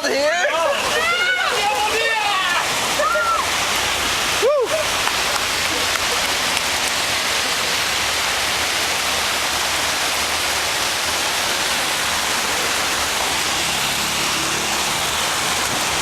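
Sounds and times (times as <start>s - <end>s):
heavy rain pouring: 0.0s - 16.0s
storm water rushing: 0.0s - 16.0s.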